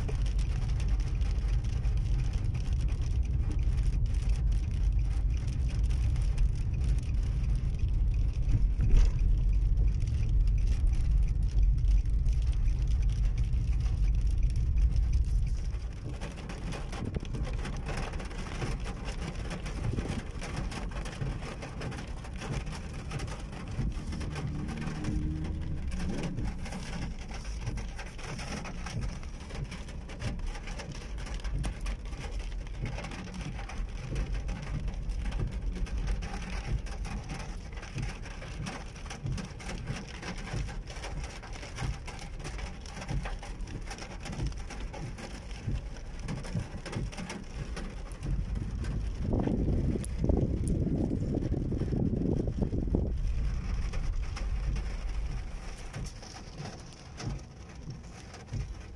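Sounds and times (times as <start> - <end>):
rain on car windshield: 0.0 - 58.9
road and engine rumble: 0.0 - 58.9.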